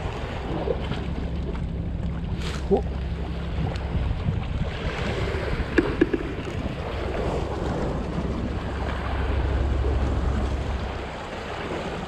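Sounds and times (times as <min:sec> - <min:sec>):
wind buffeting microphone: 0:00.0 - 0:12.0
waves washing against rocks: 0:02.3 - 0:12.0.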